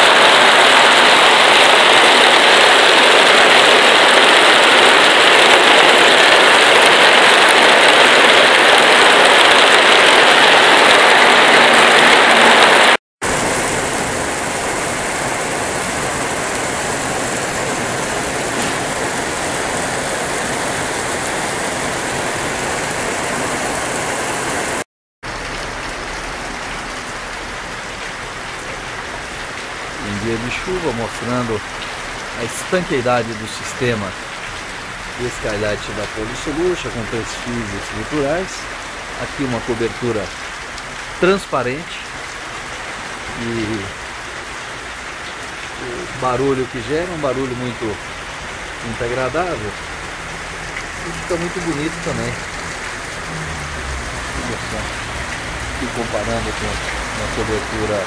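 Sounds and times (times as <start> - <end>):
rain on plastic roofing: 0.0 - 58.0.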